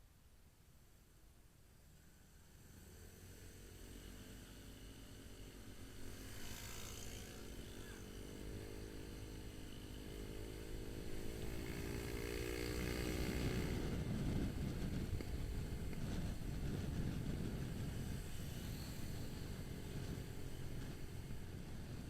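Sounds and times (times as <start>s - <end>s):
wind and road noise rumble: 1.8s - 22.0s
motorcycle engine running: 2.2s - 22.0s.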